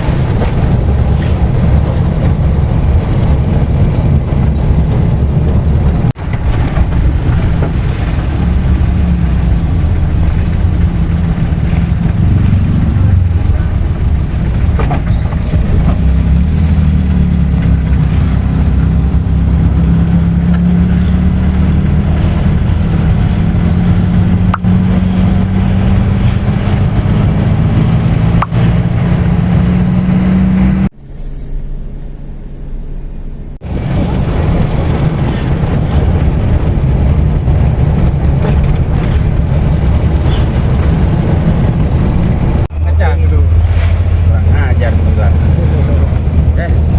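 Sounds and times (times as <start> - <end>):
vehicle engine droning: 0.0 - 46.9.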